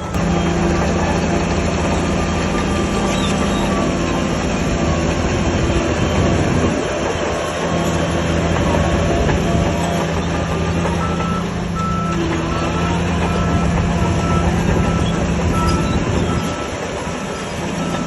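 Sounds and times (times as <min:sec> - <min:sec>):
bulldozer diesel engine: 0:00.0 - 0:18.0
steel tracks clattering: 0:00.0 - 0:18.0.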